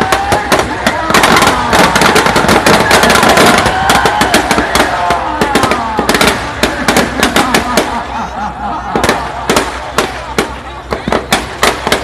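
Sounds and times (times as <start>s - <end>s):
firecrackers banging and crackling: 0.0s - 12.0s.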